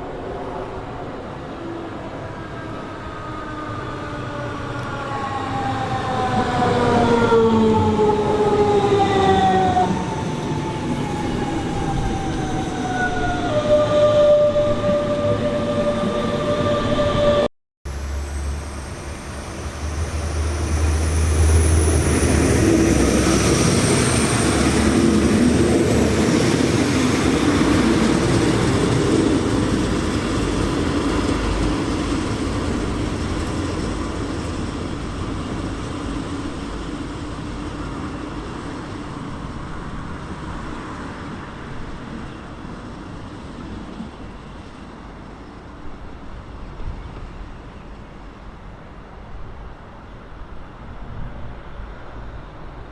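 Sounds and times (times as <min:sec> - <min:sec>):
train passing: 0:00.0 - 0:52.9.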